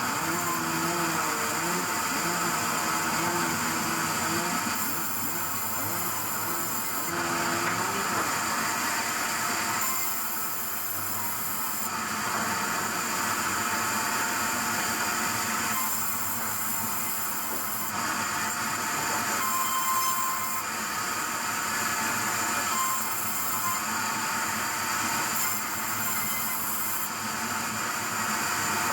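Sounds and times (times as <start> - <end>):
sawmill machinery cutting wood: 0.0 - 28.9.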